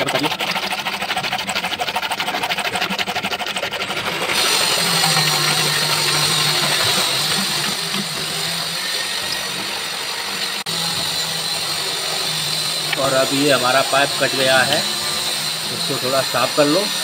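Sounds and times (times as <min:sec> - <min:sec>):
hacksaw cutting plastic pipe: 0:00.0 - 0:17.0.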